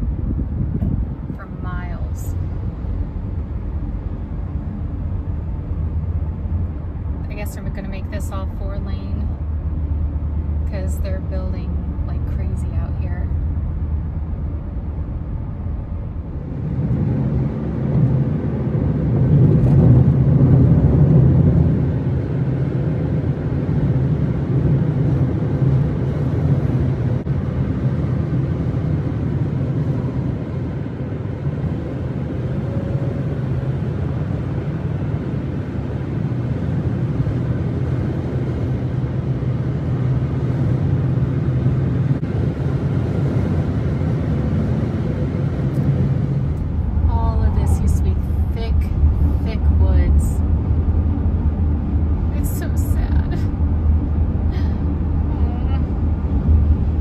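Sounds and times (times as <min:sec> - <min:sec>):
car driving at highway speed: 0:00.0 - 0:57.0.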